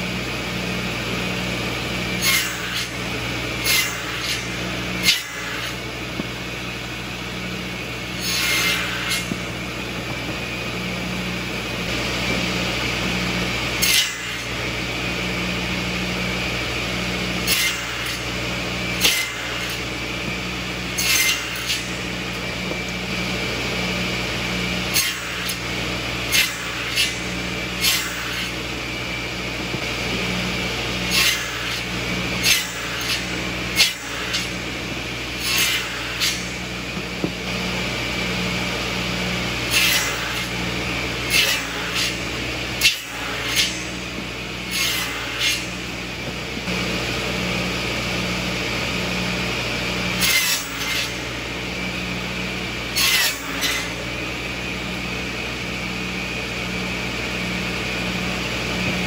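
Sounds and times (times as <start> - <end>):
buzz saw running: 0.0 - 59.0
saw cutting wood: 0.0 - 59.0.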